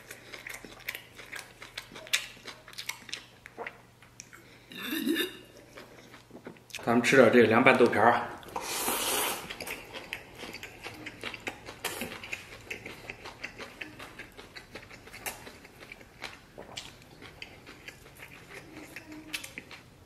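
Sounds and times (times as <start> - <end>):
wet chewing and mouth smacks: 0.0 - 4.5, 5.6 - 6.8, 8.4 - 19.9.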